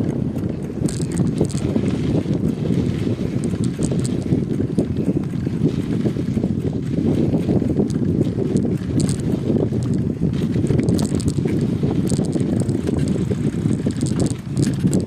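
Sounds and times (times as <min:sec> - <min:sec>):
light ticks and crackles: 0:00.0 - 0:15.0
wind buffeting microphone: 0:00.0 - 0:15.0.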